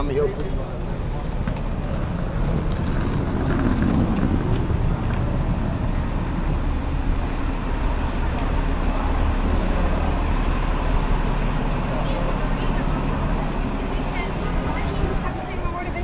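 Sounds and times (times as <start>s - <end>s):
rumble of passing traffic: 0.0s - 16.0s.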